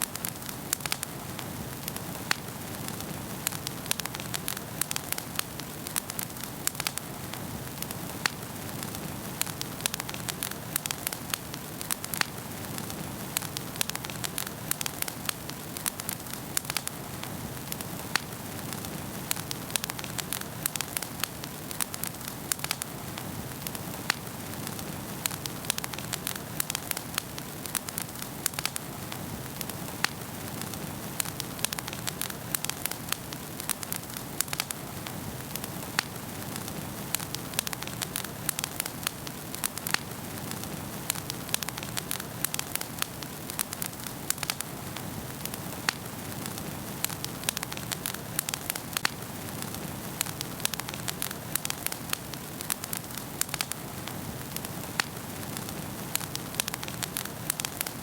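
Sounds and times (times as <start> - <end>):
rushing hiss of flame: 0.0 - 58.0
wood fire crackling and popping: 0.0 - 58.0.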